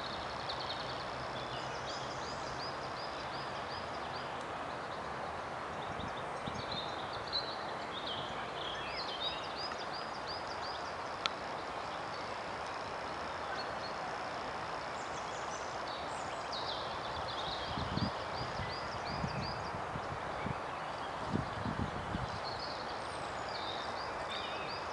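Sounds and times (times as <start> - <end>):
outdoor background rush: 0.0 - 24.9.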